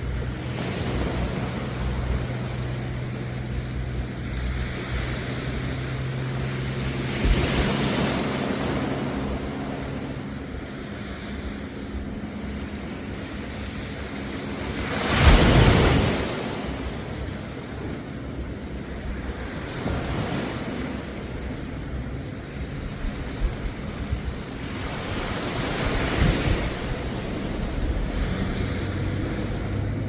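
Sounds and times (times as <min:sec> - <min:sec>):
low engine hum: 0:00.0 - 0:30.0
waves washing onto beach: 0:00.0 - 0:30.0.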